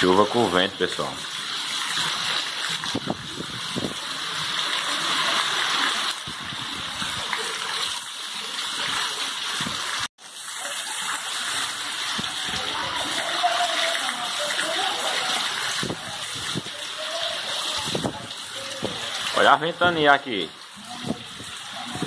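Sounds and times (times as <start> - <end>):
heavy rain pouring: 0.0 - 22.0
water splashing onto paving: 0.0 - 22.0.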